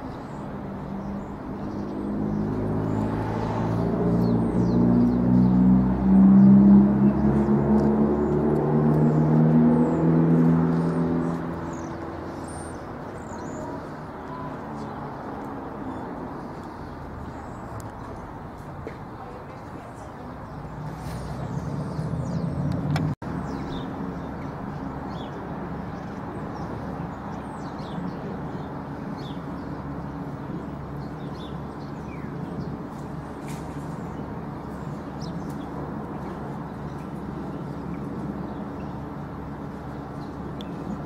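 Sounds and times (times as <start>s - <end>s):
distant traffic rumble: 0.0s - 41.0s.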